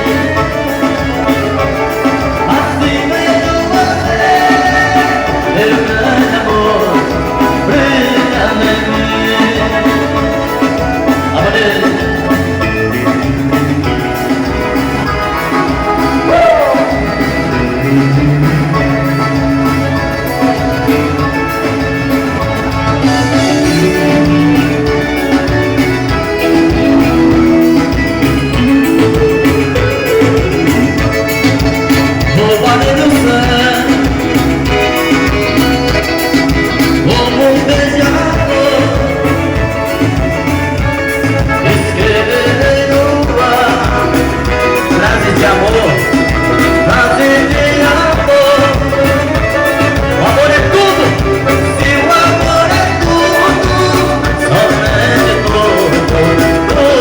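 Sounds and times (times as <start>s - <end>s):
band music with steady beat: 0.0s - 57.0s.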